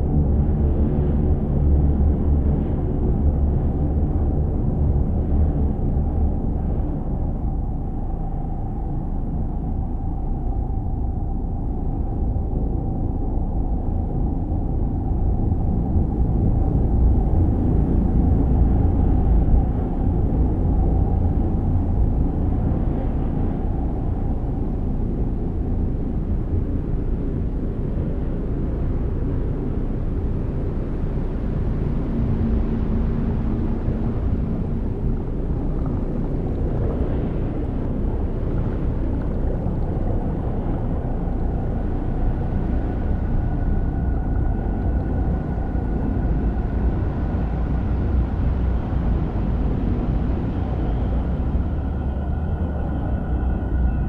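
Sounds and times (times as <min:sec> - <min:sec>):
deep rumbling drone: 0:00.0 - 0:54.0
low steady tone: 0:00.0 - 0:54.0.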